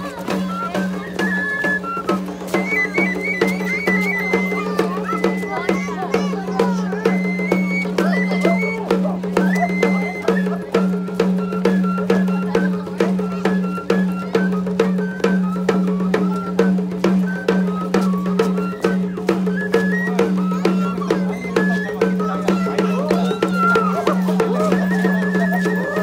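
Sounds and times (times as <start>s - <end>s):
high flute melody: 0.0s - 26.0s
steady drum strokes: 0.0s - 26.0s.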